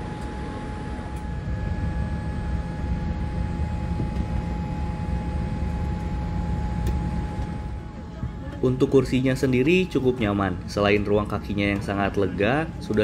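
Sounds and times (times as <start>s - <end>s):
thin high whine: 0.0s - 10.7s
airliner cabin low rumble: 0.0s - 13.0s.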